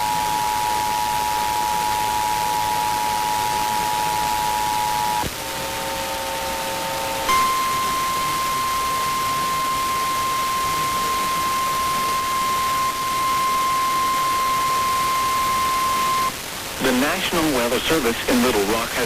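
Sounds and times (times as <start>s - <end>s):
steady warning alarm tone: 0.0s - 16.4s
radio static hiss: 0.0s - 19.0s.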